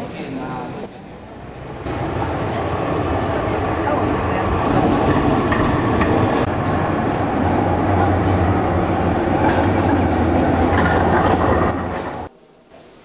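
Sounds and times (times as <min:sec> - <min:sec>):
tram wheels rumbling on rails: 0:00.0 - 0:12.4.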